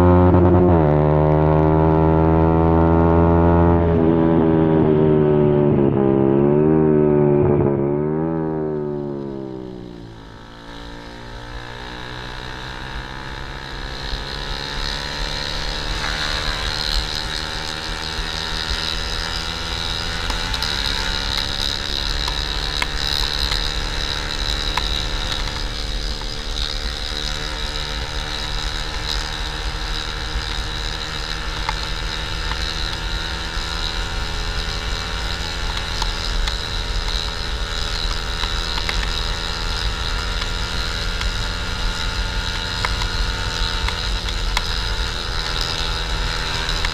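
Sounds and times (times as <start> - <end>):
motorcycle engine deep exhaust: 0.0 - 46.9.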